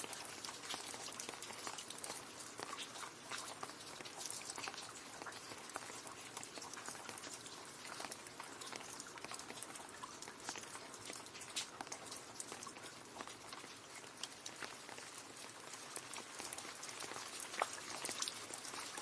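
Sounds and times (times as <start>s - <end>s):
rain splashing into a puddle: 0.0s - 19.0s.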